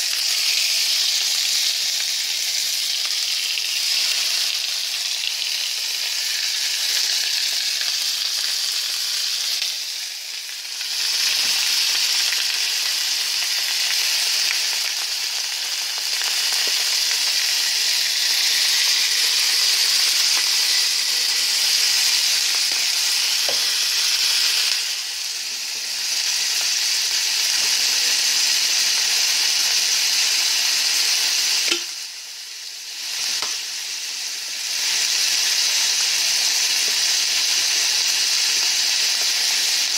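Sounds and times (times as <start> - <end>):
ribs sizzling in a pan: 0.0 - 39.9.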